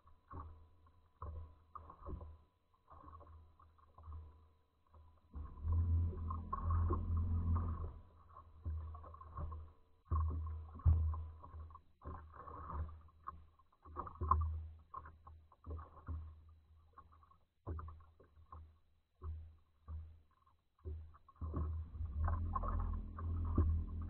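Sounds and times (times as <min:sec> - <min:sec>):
water slapping against hull: 0:00.0 - 0:24.0.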